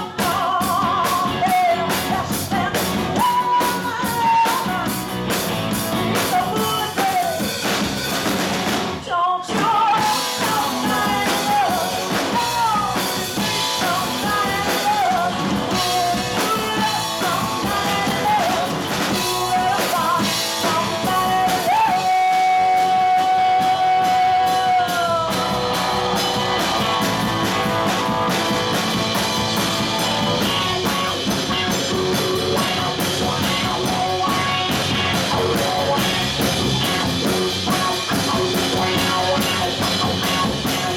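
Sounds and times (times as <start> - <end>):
woman singing lead: 0.0 - 5.3, 5.9 - 7.8, 9.0 - 40.9
electric bass: 0.0 - 9.1, 10.0 - 40.9
drum kit: 0.0 - 40.9
electric guitar: 0.0 - 40.9.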